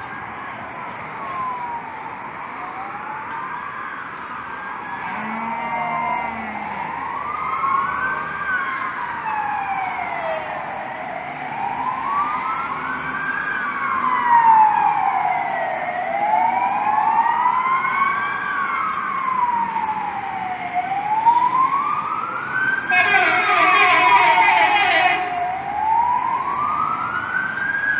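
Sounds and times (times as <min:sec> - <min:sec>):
fast warbling siren yelp: 0:00.0 - 0:27.9
fire engine siren wailing: 0:00.0 - 0:27.9.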